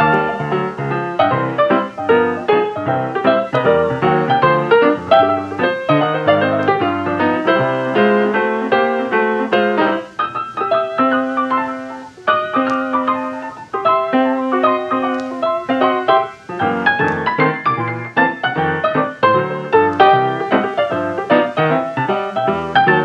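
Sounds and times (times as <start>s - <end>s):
lively piano music: 0.0s - 23.0s.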